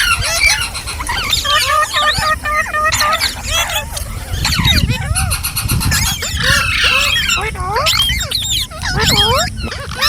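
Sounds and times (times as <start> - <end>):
parrots chattering and squawking: 0.0 - 10.0.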